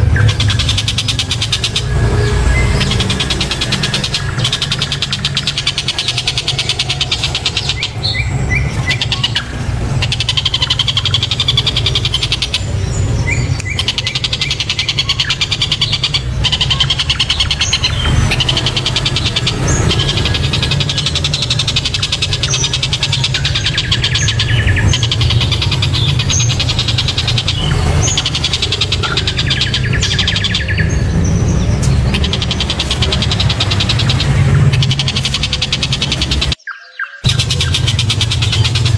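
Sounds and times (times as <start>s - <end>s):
steady low hum: 0.0s - 36.6s, 37.2s - 38.9s
kingfisher calling: 0.0s - 38.9s.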